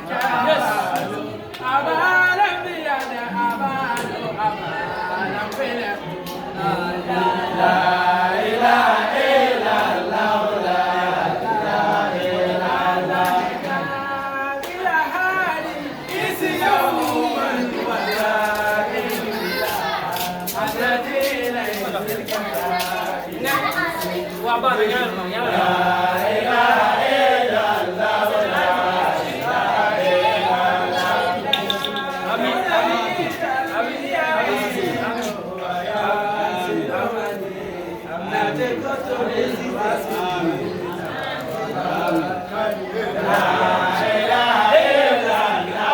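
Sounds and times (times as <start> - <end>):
voices chanting together: 0.0 - 45.9.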